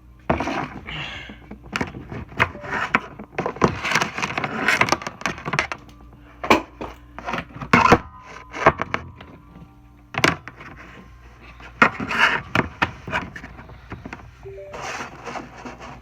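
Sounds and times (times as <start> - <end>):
faint steady hum: 0.0 - 16.0
objects knocking and scraping: 1.6 - 16.0.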